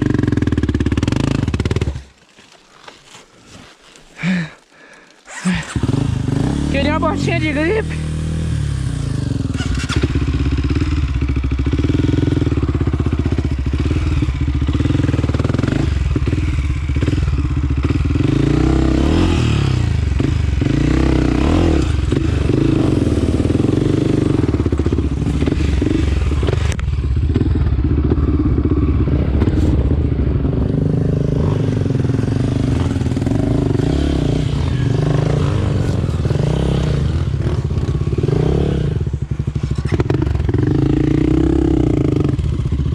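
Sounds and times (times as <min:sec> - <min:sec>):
trail bike engine: 0:00.0 - 0:42.9.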